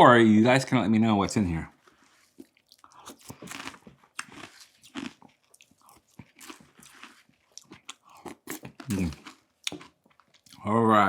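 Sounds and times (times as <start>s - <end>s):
person chewing and crunching: 1.7s - 10.8s.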